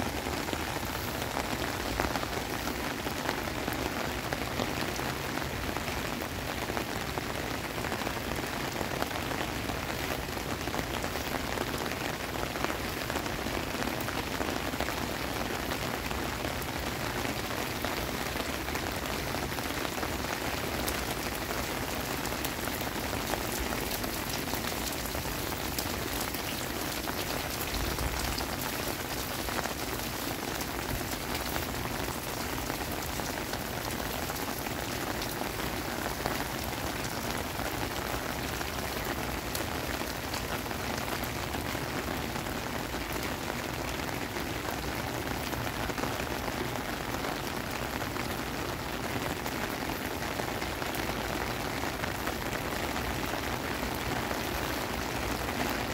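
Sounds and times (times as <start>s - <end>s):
heavy rain on pavement: 0.0s - 55.9s.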